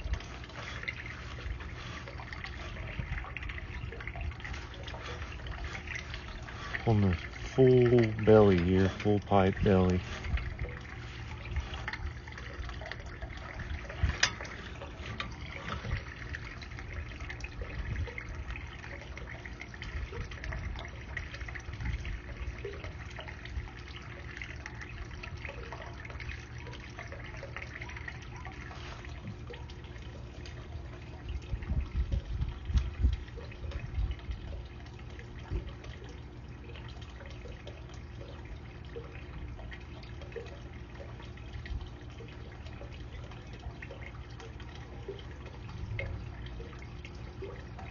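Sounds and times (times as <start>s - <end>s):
low hum: 0.0s - 40.3s
water trickling and splashing: 0.0s - 47.9s.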